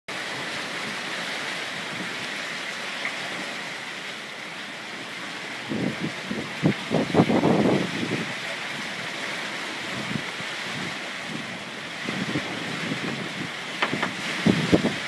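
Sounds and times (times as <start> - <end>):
sea waves breaking: 0.1 - 15.0.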